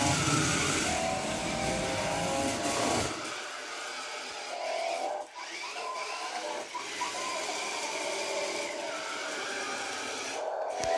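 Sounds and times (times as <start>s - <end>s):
toy car electric motor whining: 0.0s - 10.9s.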